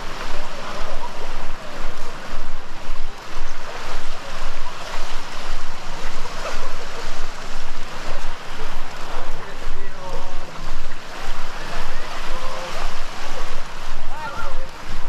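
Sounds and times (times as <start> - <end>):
surf washing onto beach: 0.0 - 15.0
wind on microphone: 0.0 - 15.0.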